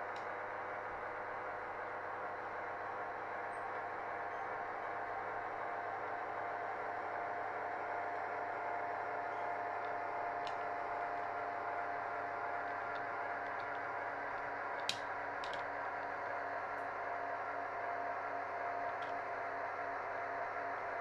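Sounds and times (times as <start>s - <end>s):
model train whirring hum: 0.0s - 21.0s.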